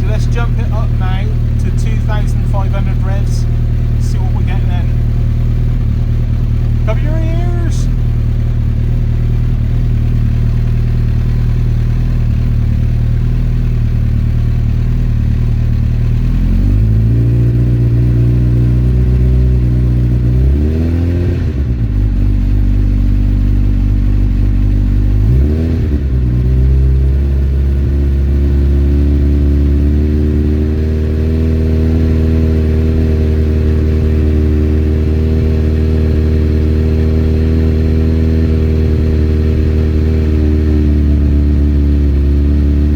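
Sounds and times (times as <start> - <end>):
motorcycle engine revving: 0.0 - 7.0, 7.7 - 42.9.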